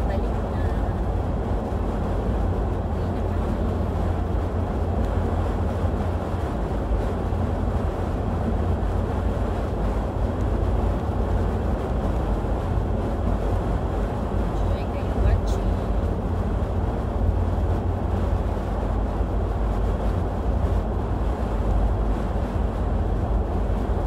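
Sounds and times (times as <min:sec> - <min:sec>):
road and engine rumble in cabin: 0:00.0 - 0:24.0.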